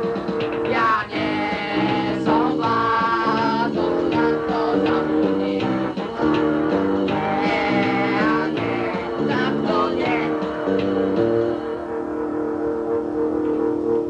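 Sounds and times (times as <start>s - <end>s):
punk band playing: 0.0s - 14.0s
strummed guitar chords: 0.0s - 14.0s.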